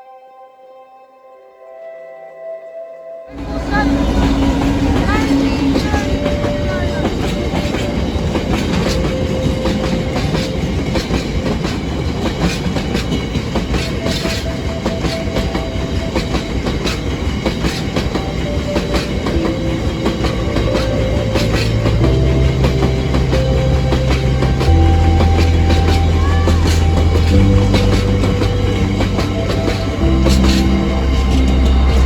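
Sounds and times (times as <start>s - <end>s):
train wheels clattering on rails: 3.4s - 32.0s.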